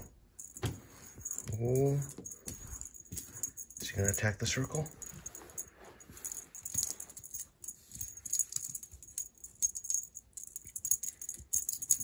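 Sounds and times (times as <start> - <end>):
toy streamer rustling: 0.0 - 12.0.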